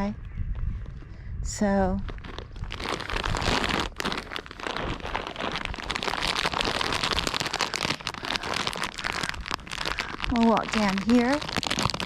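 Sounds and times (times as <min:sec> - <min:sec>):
crunching footsteps: 0:02.0 - 0:12.0.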